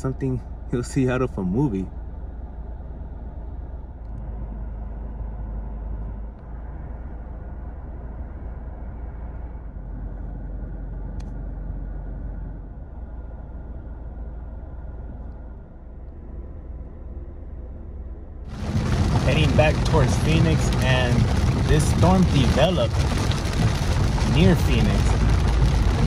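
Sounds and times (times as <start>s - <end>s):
car cabin engine and road rumble: 0.0s - 26.0s.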